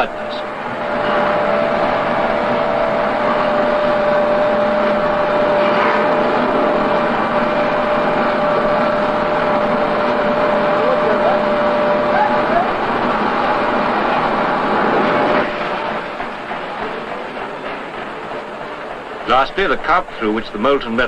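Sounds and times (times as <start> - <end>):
constant machine whine: 0.0 - 21.0
foundry roar: 0.0 - 21.0.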